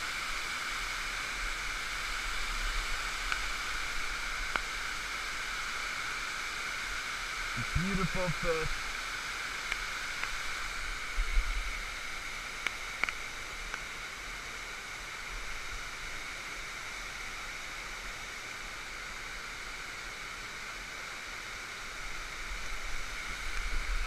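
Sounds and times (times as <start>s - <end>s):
pouring rain: 0.0s - 24.0s
stream water rushing: 0.0s - 24.0s.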